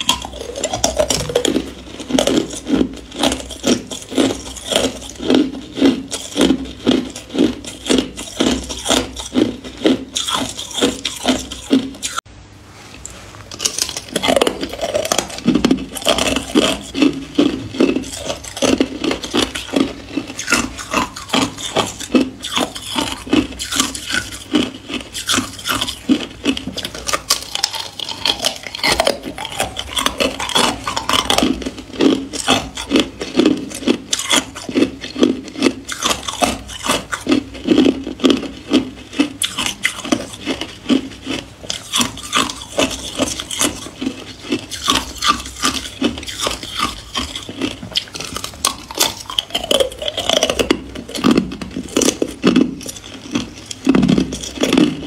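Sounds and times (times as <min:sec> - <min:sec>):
ice being chewed: 0:00.0 - 0:12.3, 0:12.9 - 0:55.0.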